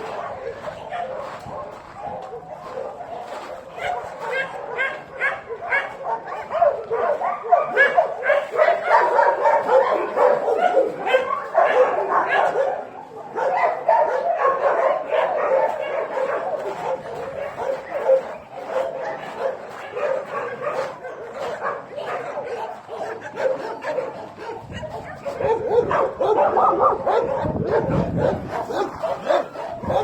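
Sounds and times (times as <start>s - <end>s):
dogs barking and yipping: 0.0s - 30.0s.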